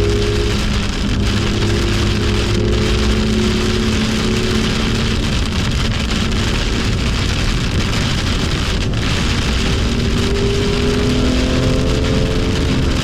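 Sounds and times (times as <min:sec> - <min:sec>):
car engine at speed: 0:00.0 - 0:13.0
rain and water hiss: 0:00.0 - 0:13.0.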